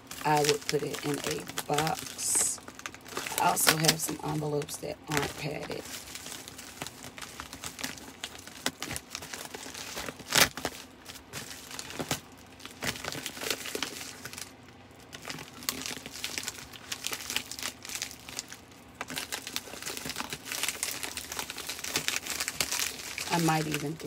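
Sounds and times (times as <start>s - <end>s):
plastic envelope crinkling: 0.0s - 24.0s.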